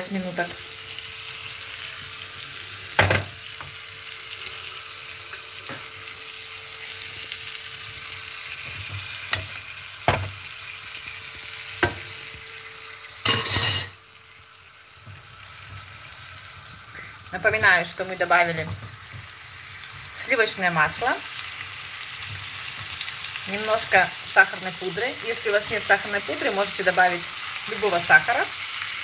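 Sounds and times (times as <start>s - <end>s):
pineapple sizzling in a pan: 0.0s - 29.0s.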